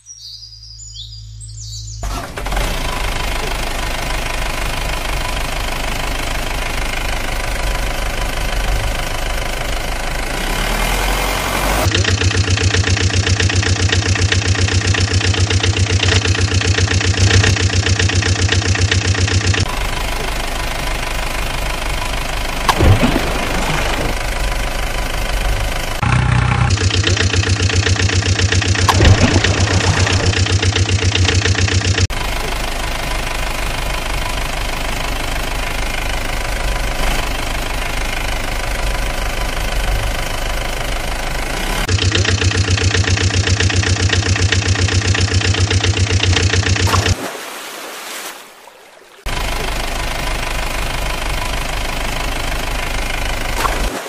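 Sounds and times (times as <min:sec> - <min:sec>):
small truck engine idling: 0:01.0 - 0:47.2, 0:49.2 - 0:53.9.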